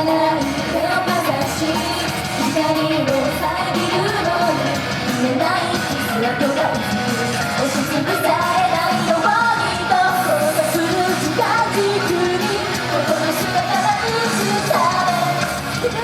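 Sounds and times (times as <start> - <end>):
group singing live: 0.0 - 16.0
loud pop-rock backing track: 0.0 - 16.0.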